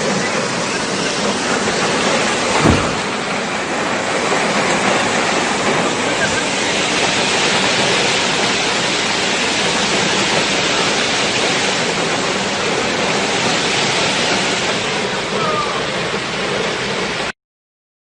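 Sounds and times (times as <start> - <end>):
flood water rushing: 0.0 - 17.3.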